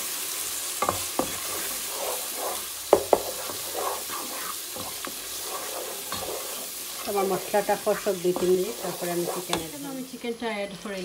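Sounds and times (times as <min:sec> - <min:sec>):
spices sizzling in oil: 0:00.0 - 0:11.0
spatula scraping pot: 0:00.8 - 0:10.1.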